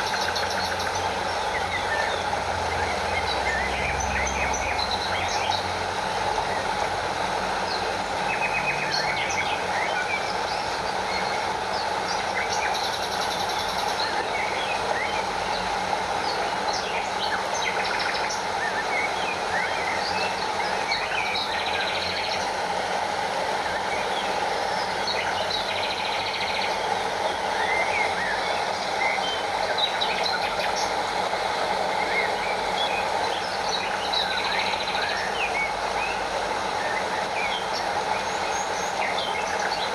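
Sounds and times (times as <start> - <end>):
stream and small waterfall rushing: 0.0 - 39.9.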